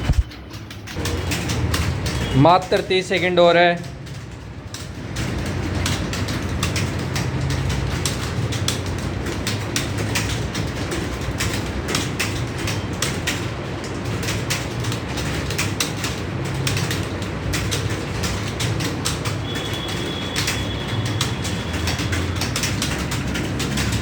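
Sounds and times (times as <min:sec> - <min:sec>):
keyboards clattering: 0:00.0 - 0:24.0.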